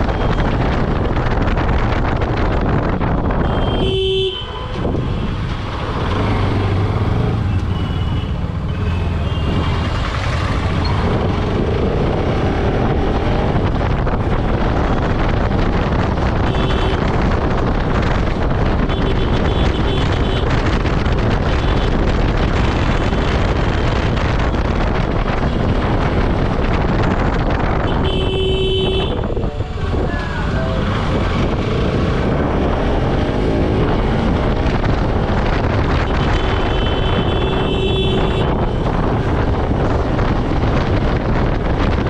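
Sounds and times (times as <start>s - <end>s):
wind rushing over microphone: 0.0s - 42.0s
motorcycle engine cruising: 4.6s - 28.1s, 29.0s - 42.0s.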